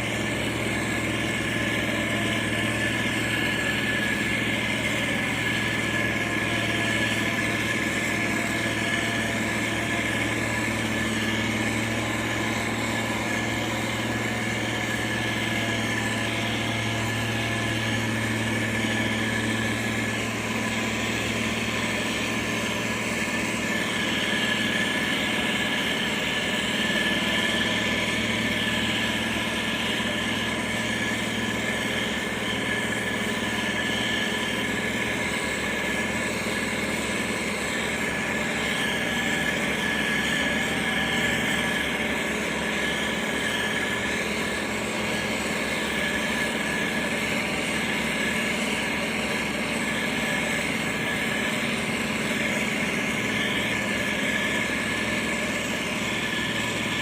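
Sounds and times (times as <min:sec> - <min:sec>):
diesel engine humming: 0:00.0 - 0:57.0
high-pitched whine: 0:00.0 - 0:57.0.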